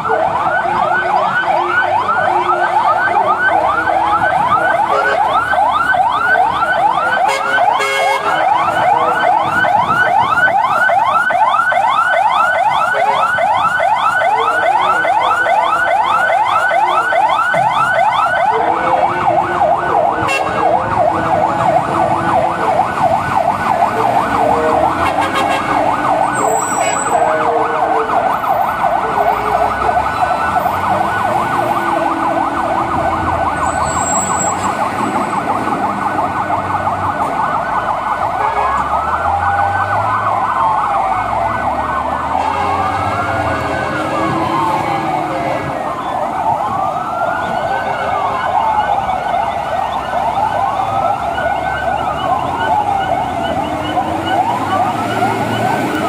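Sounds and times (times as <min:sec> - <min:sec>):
fast electronic siren yelp: 0:00.0 - 0:56.0
siren wail rising and falling: 0:00.0 - 0:56.0
truck engines running: 0:00.0 - 0:56.0.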